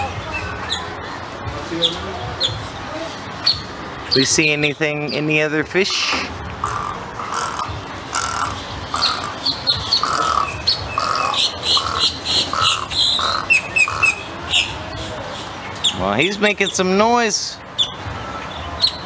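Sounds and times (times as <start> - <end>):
birds giving harsh calls: 1.8 - 19.0.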